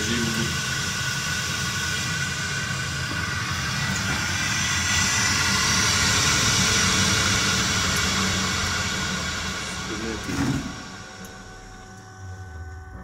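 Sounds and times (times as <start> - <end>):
blower whirring with high whine: 0.0 - 13.0.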